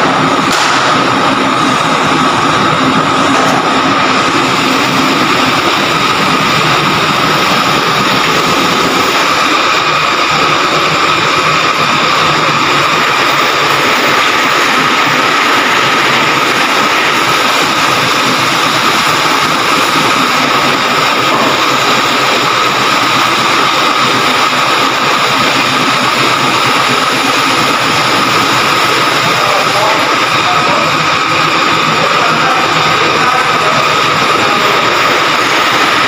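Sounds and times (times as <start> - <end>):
high whine: 0.0 - 36.0
loud machinery drone: 0.0 - 36.0.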